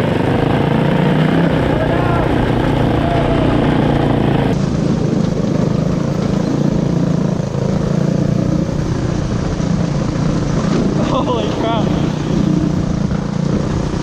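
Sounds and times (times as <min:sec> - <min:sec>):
go-kart engines droning: 0:00.0 - 0:14.0.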